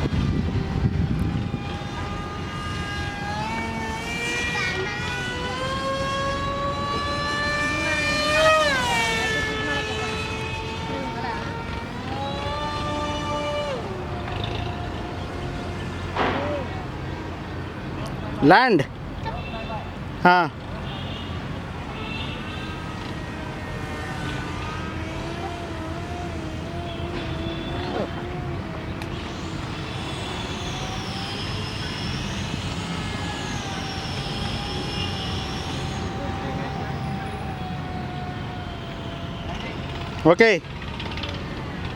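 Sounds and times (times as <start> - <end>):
model plane motor whine: 0.0 - 18.2, 20.6 - 41.9.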